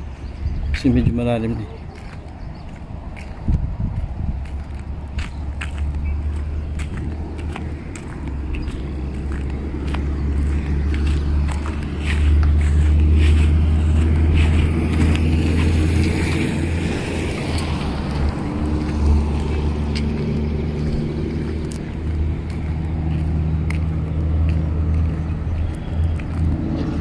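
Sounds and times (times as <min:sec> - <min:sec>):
road travel rumble: 0:00.0 - 0:27.0.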